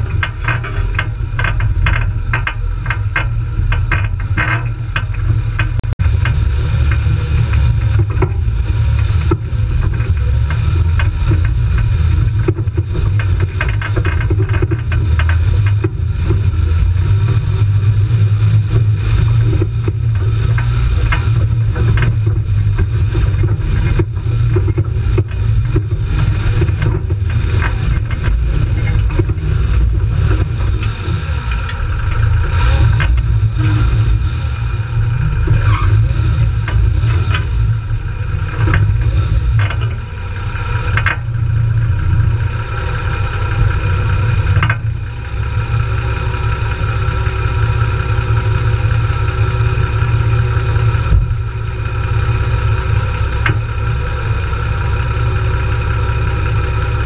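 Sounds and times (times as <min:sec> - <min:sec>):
jeep engine running: 0:00.0 - 0:57.0
knocks and rattles from rough ground: 0:00.0 - 0:57.0.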